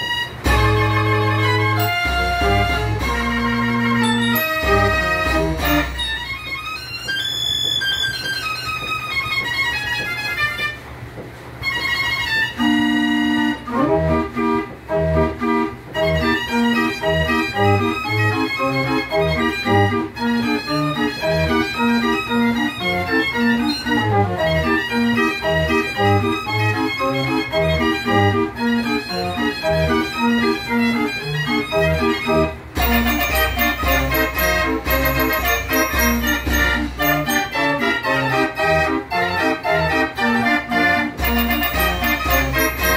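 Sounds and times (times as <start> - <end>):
band organ playing pipe music: 0.0 - 10.8, 11.6 - 42.9.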